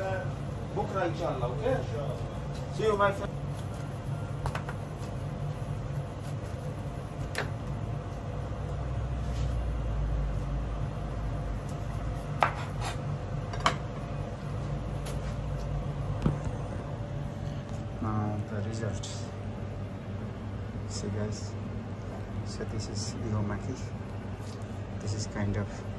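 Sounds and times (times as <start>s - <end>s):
low mechanical hum: 0.0s - 25.9s.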